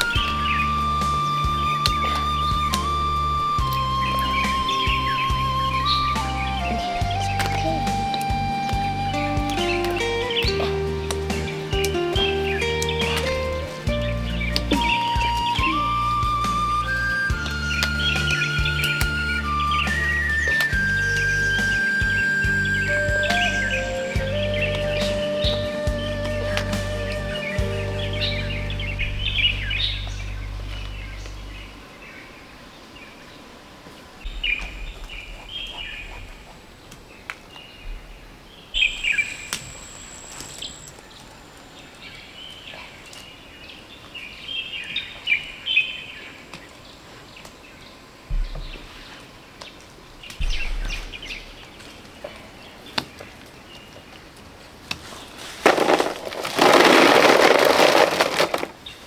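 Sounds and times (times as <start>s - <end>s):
small birds chirping: 0.0s - 57.4s.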